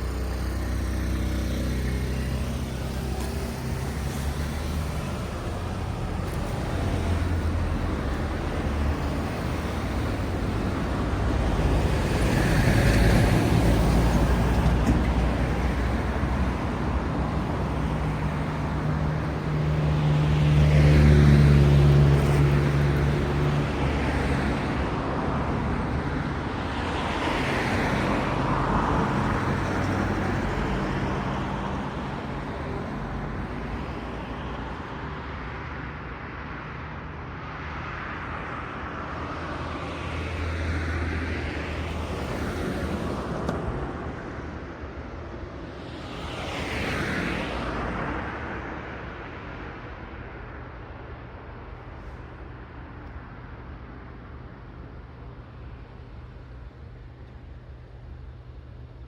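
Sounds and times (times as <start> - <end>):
vehicles passing with tyre noise: 0.0 - 59.0.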